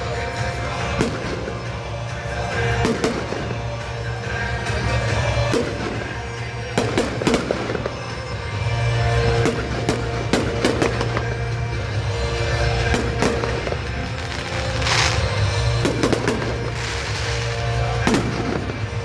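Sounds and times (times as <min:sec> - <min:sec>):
fireworks bangs: 0:00.0 - 0:19.0
music playing: 0:00.0 - 0:19.0.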